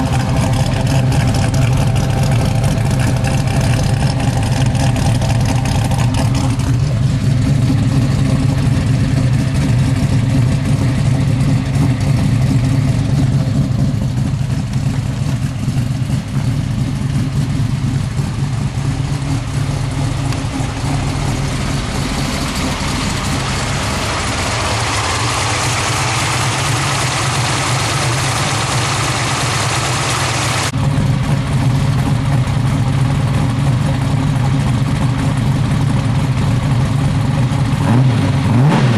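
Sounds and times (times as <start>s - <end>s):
v eight engine rumbling: 0.0s - 38.9s.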